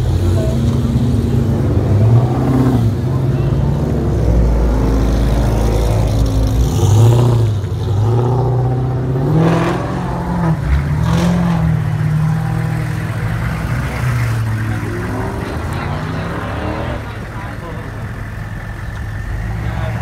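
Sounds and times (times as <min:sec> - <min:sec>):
car engine deep rumble: 0:00.0 - 0:20.0
vehicle engine rolling past: 0:00.0 - 0:20.0.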